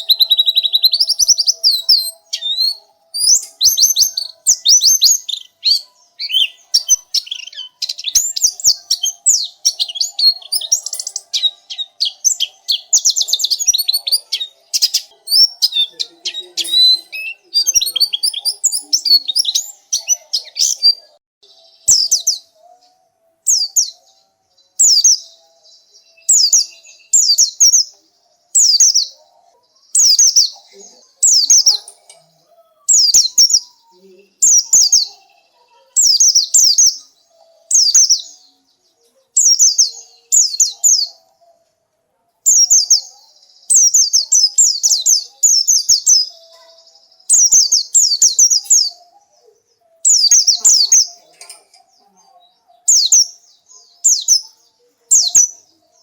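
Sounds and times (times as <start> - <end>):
small bird singing: 0.0 - 56.0.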